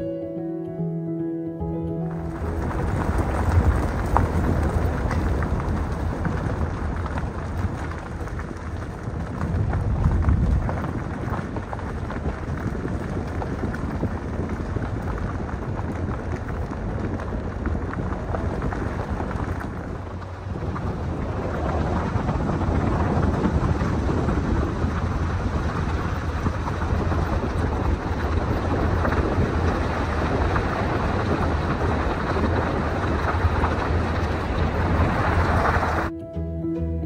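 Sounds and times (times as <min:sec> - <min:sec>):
low road rumble: 0:00.0 - 0:37.0
tyre and wind noise: 0:01.9 - 0:36.2.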